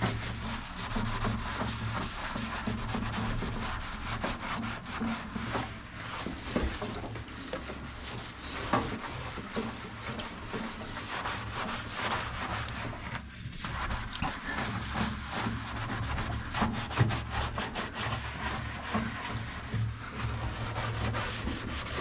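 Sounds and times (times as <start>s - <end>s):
toothbrush scrubbing plastic: 0.0s - 22.0s.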